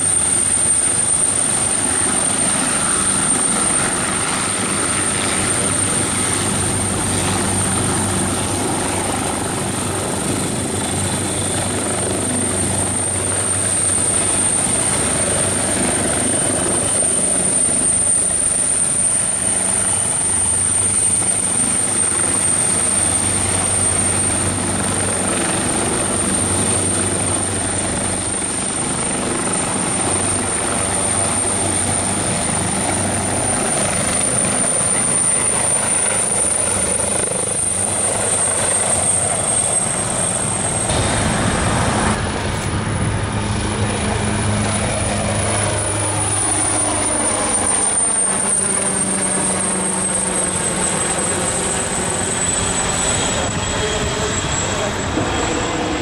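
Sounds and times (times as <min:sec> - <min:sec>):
helicopter rotor throb: 0:00.0 - 0:56.0
high turbine whine: 0:00.0 - 0:56.0.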